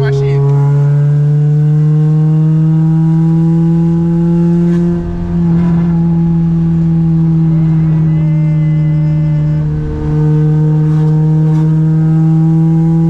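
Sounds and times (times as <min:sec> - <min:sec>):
car engine pulling under throttle: 0:00.0 - 0:13.0.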